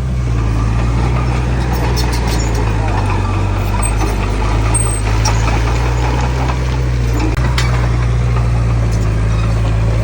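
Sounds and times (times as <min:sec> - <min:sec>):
heavy diesel engine humming: 0:00.0 - 0:10.0.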